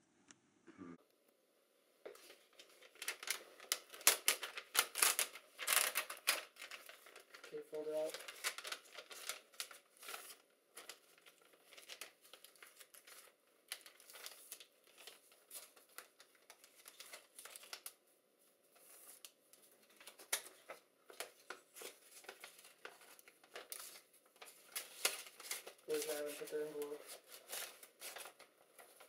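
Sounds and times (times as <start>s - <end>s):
paper rustling and crinkling: 2.1s - 29.0s.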